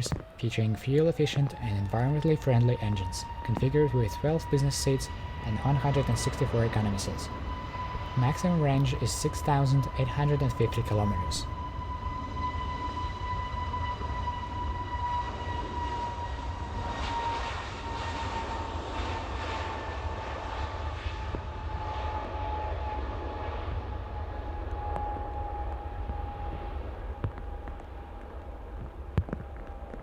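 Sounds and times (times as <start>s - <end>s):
jet engines whining: 0.0s - 30.0s
low rumble: 0.0s - 30.0s.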